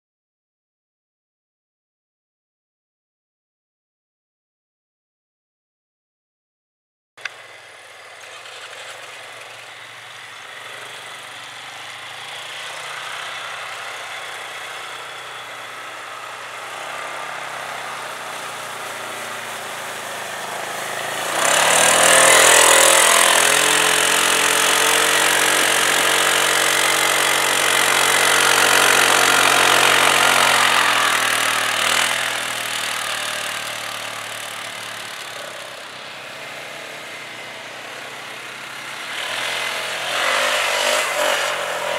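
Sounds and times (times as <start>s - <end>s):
atv engines running: 7.2s - 41.9s.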